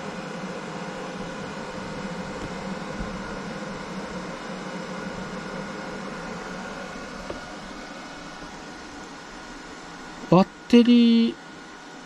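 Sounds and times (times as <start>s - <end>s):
cooling fans whirring hum: 0.0s - 12.0s.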